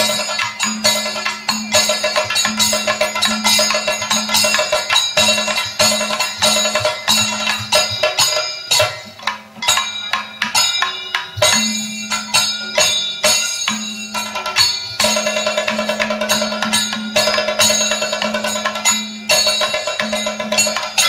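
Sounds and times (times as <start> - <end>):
metallic percussion strikes: 0.0 - 21.0.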